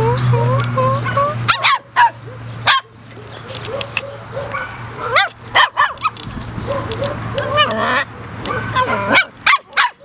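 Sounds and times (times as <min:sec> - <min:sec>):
puppies whining: 0:00.3 - 0:10.0
puppies yipping: 0:00.8 - 0:10.0.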